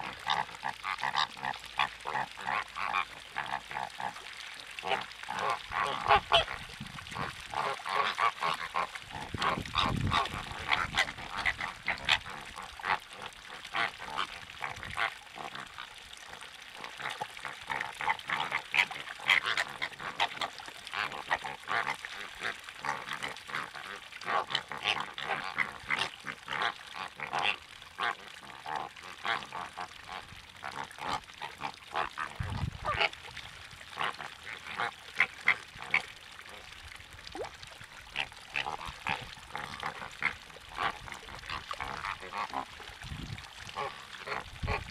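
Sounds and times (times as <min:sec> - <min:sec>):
water birds calling: 0:00.0 - 0:44.9.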